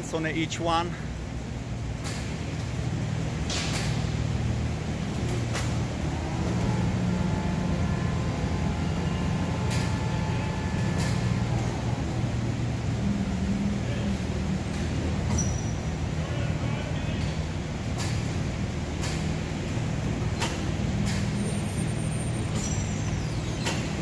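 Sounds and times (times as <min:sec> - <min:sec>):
crane mechanical hum: 0:00.0 - 0:24.0.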